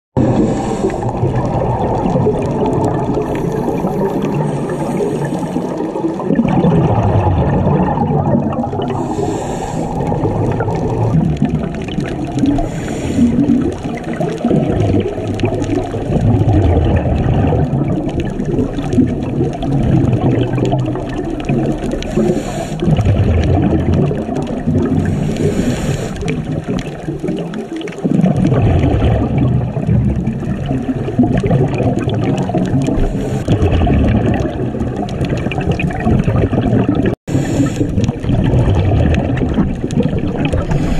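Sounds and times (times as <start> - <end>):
underwater rushing water: 0.2 - 40.9.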